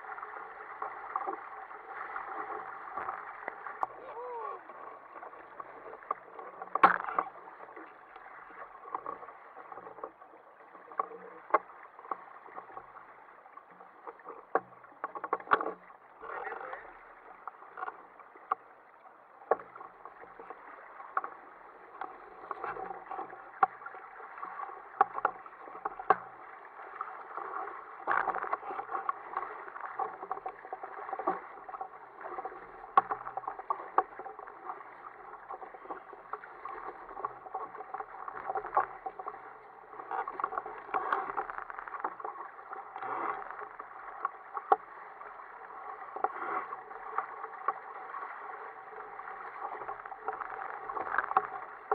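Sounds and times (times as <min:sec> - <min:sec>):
water slapping against kayak hull: 0:00.0 - 0:51.9.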